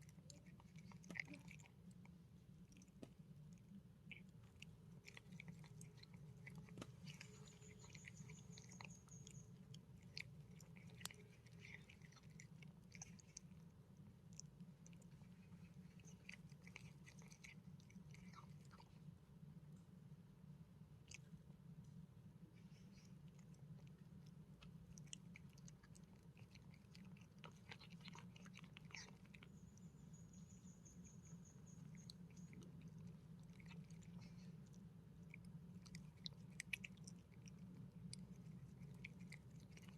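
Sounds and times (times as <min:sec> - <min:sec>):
animal chewing food: 0:00.0 - 0:19.2, 0:22.6 - 0:39.9
steady low hum: 0:00.0 - 0:39.9.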